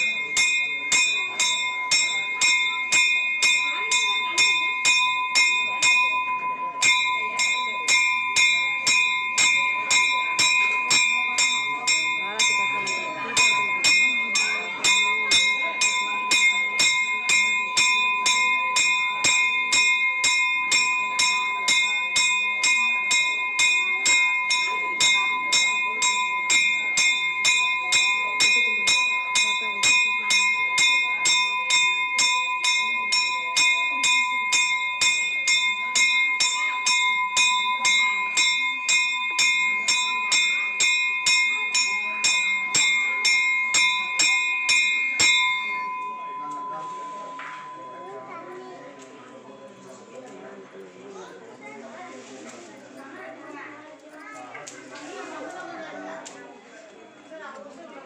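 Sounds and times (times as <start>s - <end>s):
temple bell ringing: 0.0s - 52.0s.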